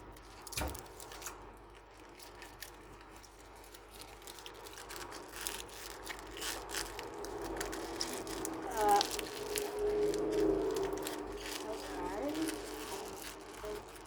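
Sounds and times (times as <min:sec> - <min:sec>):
paper crinkling and rustling: 0:00.2 - 0:14.0.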